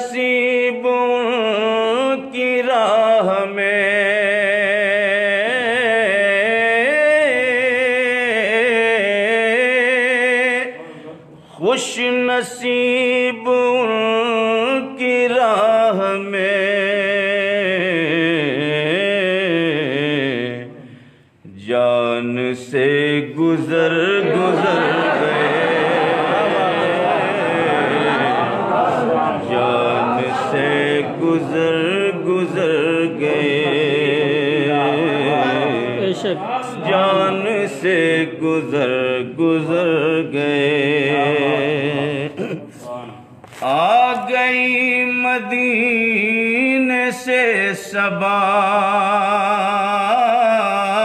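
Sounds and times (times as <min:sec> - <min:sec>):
man singing unaccompanied: 0:00.0 - 0:10.8, 0:11.6 - 0:20.8, 0:21.5 - 0:28.1, 0:29.5 - 0:42.5, 0:43.6 - 0:51.0.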